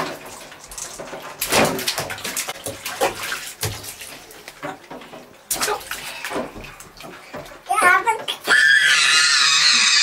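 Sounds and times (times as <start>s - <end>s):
water splashing in a metal sink: 0.0s - 9.7s.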